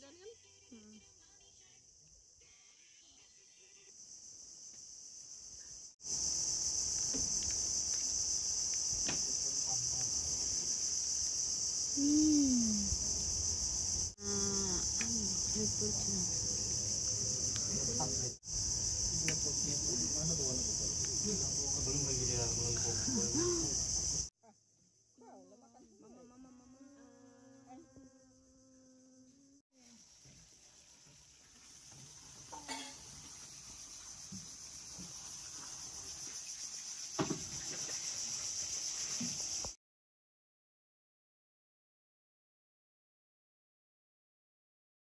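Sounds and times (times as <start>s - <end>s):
insects droning chorus: 0.2s - 39.8s.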